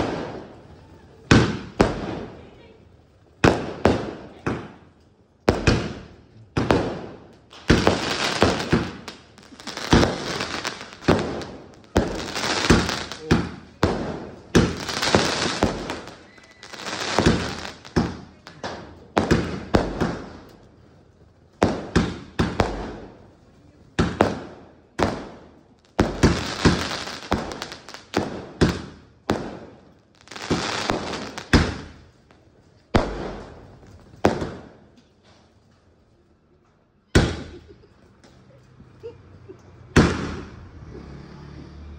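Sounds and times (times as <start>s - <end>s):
firework bangs: 0.0s - 35.6s, 37.1s - 38.4s, 39.8s - 41.2s.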